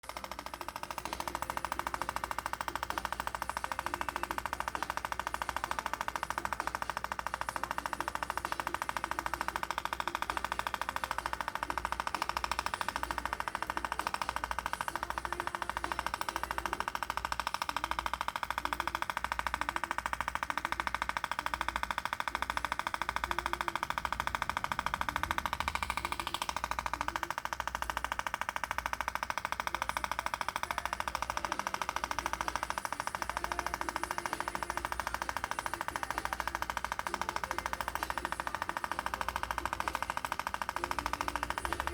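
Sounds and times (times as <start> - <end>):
tattoo machine buzzing: 0.0 - 41.9.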